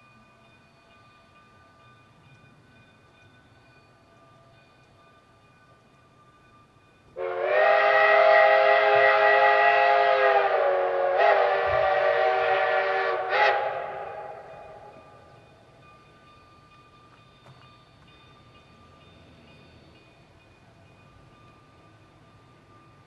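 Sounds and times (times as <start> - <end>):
steam locomotive chime whistle: 0.0 - 23.0.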